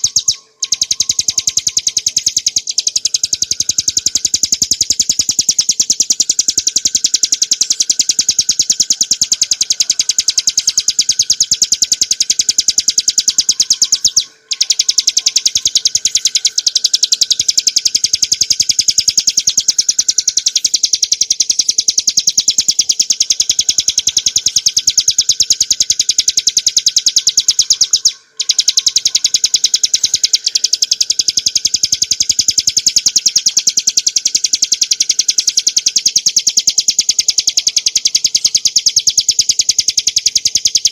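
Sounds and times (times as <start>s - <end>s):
bird song rapid rattle: 0.0s - 40.9s.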